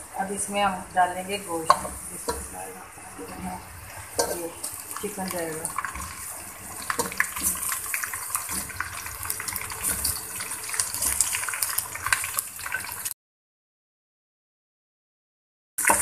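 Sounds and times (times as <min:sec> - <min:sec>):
chicken sizzling in hot oil: 0:00.0 - 0:13.2, 0:15.8 - 0:16.0.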